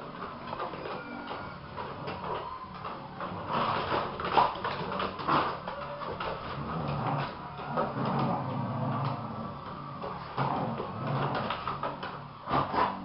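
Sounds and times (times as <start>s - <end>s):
dogs play growling: 0.0s - 13.0s.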